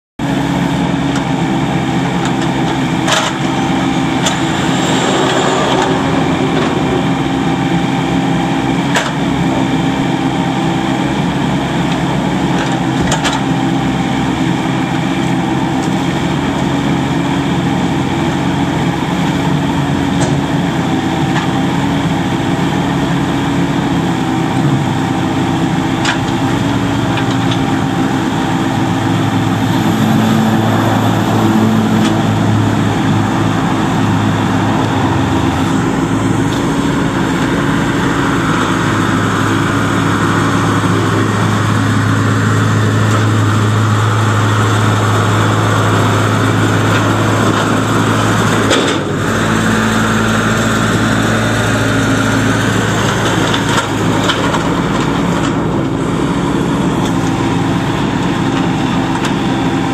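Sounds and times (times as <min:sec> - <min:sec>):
excavator diesel engine running: 0:00.2 - 0:59.9.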